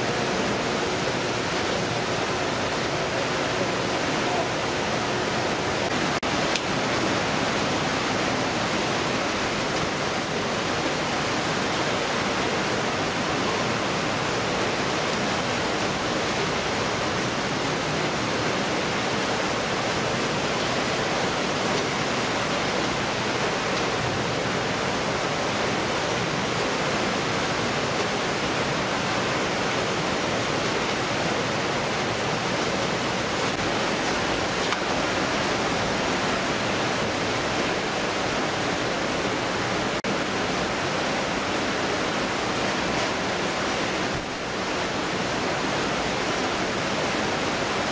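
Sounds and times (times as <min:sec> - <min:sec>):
conveyor machinery: 0:00.0 - 0:47.9
running water: 0:00.0 - 0:47.9.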